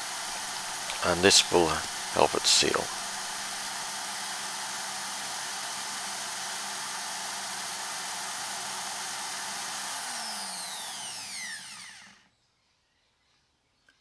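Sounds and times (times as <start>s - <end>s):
electric drill running: 0.0s - 12.3s.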